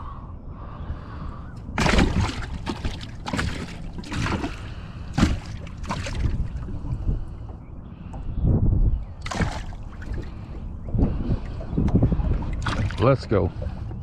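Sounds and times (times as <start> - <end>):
water sloshing and splashing: 1.6 - 8.4, 9.0 - 14.0.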